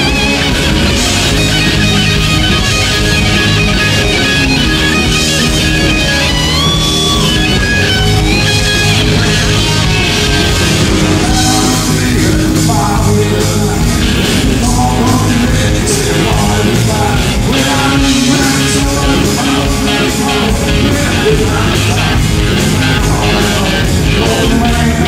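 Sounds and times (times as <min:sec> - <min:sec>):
lead guitar bent notes: 0:00.0 - 0:25.0
rock band playing live: 0:00.0 - 0:25.0.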